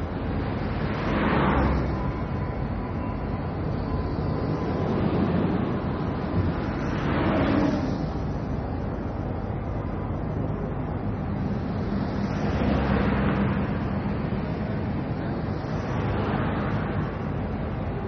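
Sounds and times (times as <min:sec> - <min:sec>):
city traffic rumble: 0:00.0 - 0:18.0
vehicles passing: 0:00.0 - 0:18.0.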